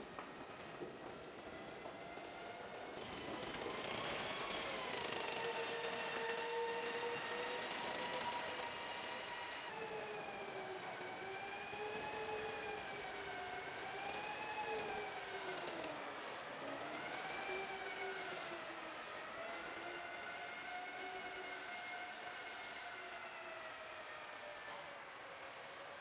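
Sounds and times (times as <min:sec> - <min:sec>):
tank turbine engine whining: 0:01.9 - 0:24.9.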